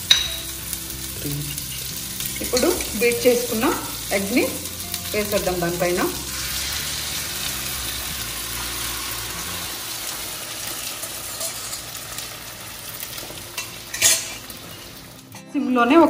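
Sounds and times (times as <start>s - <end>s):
egg sizzling on hot iron: 0.0s - 15.4s.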